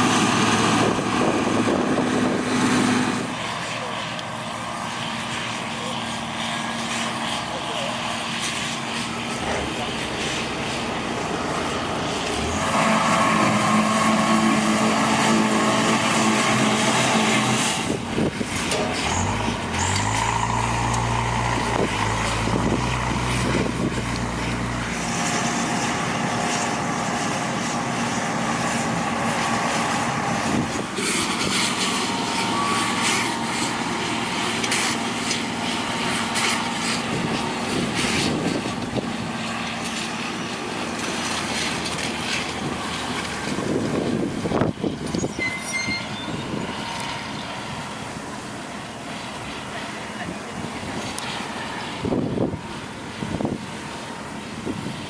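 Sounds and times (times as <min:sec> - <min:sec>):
deeper engine note: 0:00.0 - 0:55.0
farm machinery engines running: 0:00.0 - 0:55.0.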